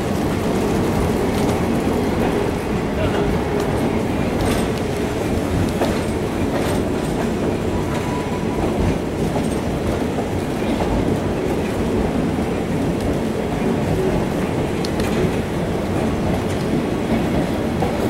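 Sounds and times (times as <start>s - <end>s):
train cars rumbling: 0.0s - 18.0s
wheels clacking over rail joints: 0.0s - 18.0s.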